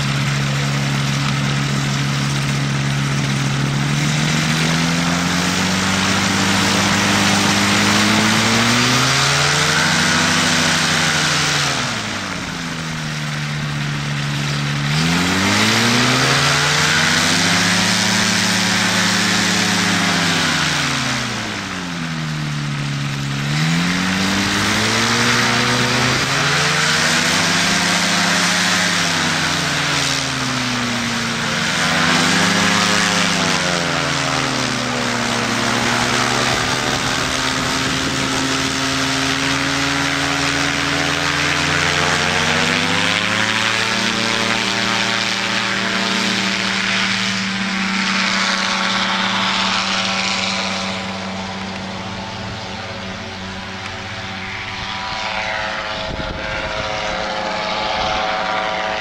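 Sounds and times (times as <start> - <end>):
engine and propeller running: 0.0 - 59.0.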